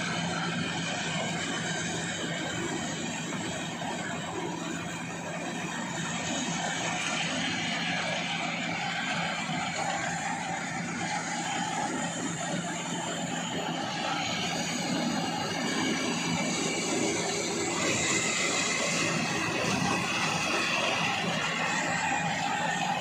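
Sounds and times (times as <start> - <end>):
harvester engine running: 0.0 - 23.0.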